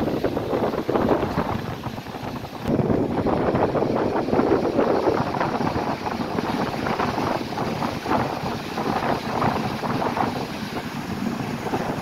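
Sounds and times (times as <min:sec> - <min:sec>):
rushing wind noise: 0:00.0 - 0:12.0.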